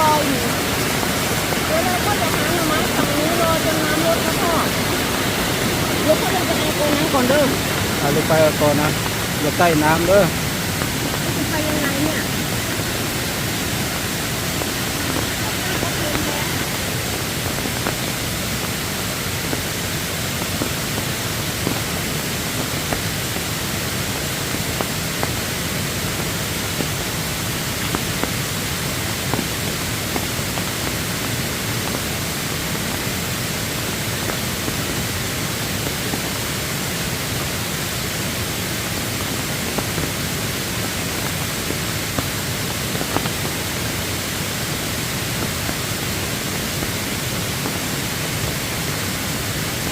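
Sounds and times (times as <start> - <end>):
floodwater rushing in stream: 0.0 - 49.9.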